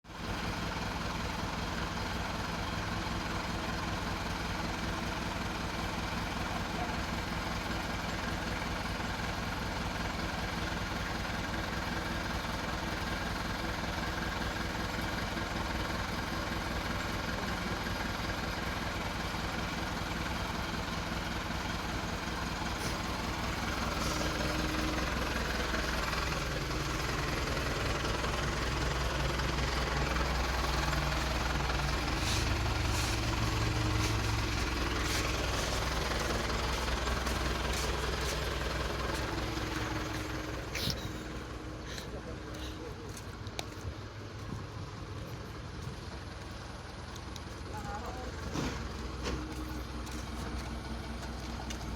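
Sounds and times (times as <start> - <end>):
truck engine labouring: 0.1 - 51.9.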